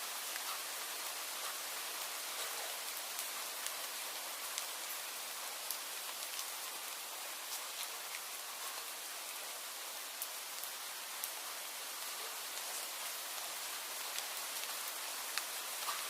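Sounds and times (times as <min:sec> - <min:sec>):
raindrops ticking on a surface: 0:00.0 - 0:16.0
steady rain falling: 0:00.0 - 0:16.0.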